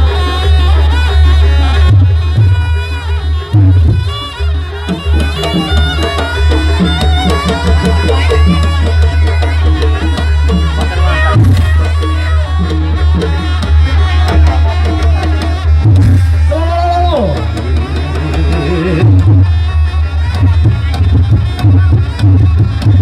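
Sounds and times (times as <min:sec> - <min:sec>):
loud busy drumming: 0:00.0 - 0:23.0.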